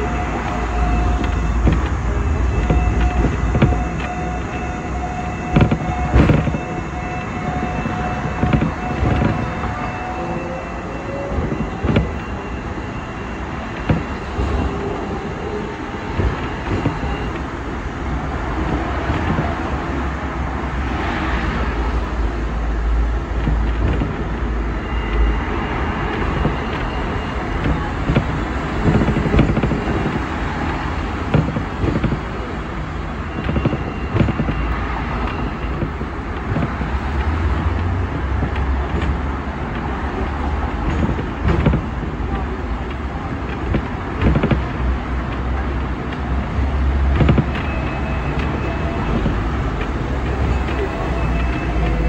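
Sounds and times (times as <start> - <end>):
road traffic passing: 0.0 - 52.0
tram wheels rumbling on rails: 0.0 - 52.0.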